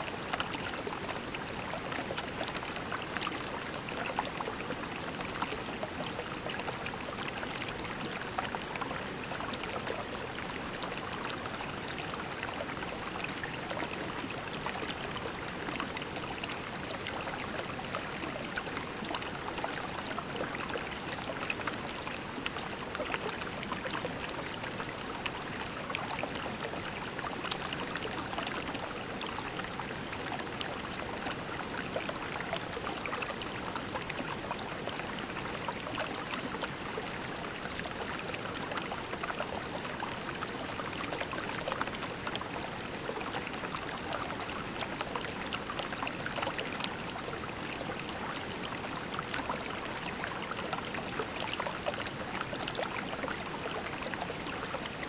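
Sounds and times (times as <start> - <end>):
creek babbling over pebbles: 0.0 - 55.0.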